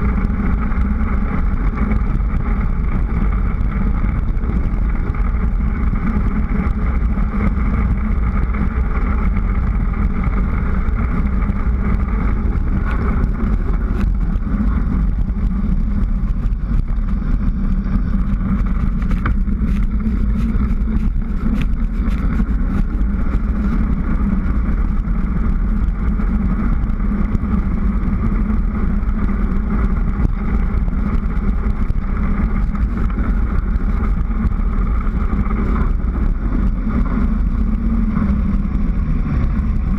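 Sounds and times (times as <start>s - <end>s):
tyres humming on road: 0.0s - 39.9s
wind rushing over microphone: 0.0s - 39.9s.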